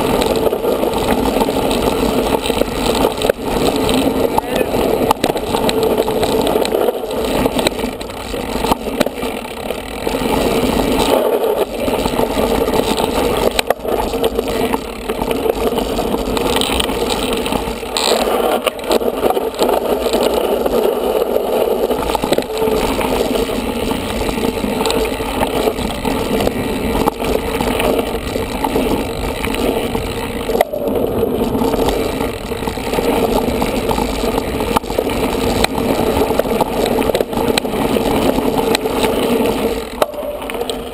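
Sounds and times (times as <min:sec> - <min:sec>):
bike rattling: 0:00.0 - 0:40.9
tyre and wind noise: 0:00.0 - 0:40.9.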